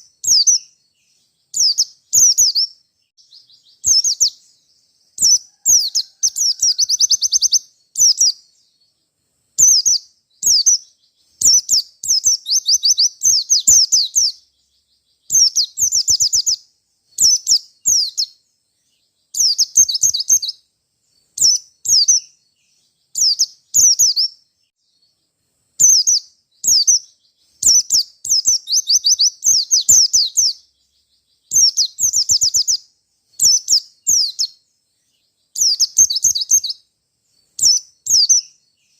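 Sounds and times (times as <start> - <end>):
bird chirping and trilling: 0.0 - 25.2, 25.8 - 38.9.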